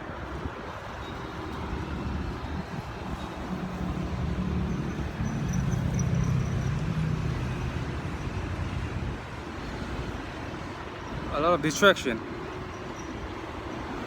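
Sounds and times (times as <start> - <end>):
road traffic rumbling overhead: 0.0 - 14.0.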